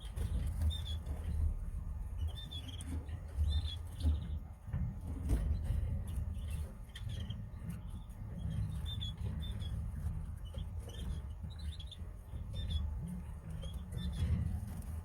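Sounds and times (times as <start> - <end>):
canaries chirping: 2.2 - 14.9.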